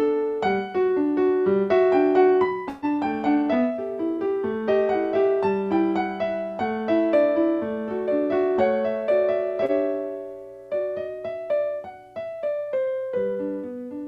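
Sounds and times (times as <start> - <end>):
solo piano prelude: 0.0 - 14.0.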